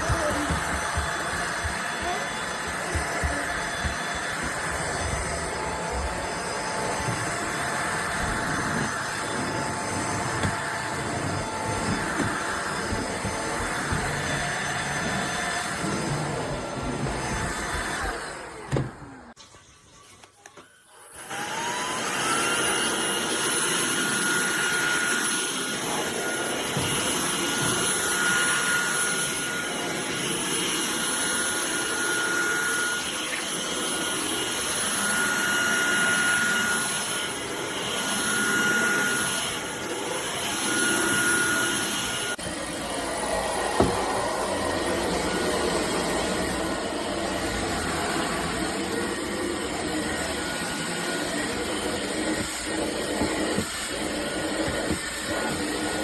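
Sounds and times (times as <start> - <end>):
stick vacuum motor whining: 0.0 - 19.4, 20.4 - 56.0.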